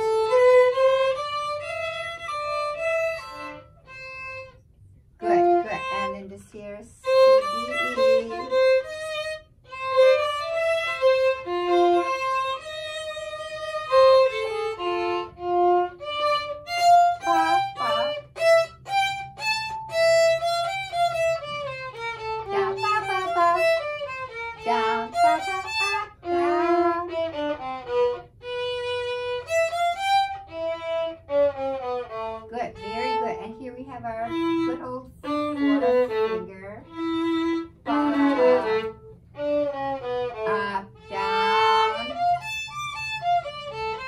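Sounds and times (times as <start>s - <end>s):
violins playing a melody: 0.0s - 44.0s.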